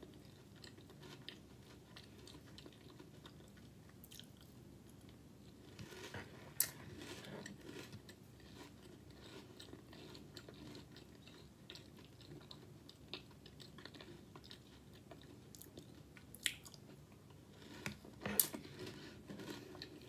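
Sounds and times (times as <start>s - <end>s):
chewing cereal: 0.0s - 20.0s.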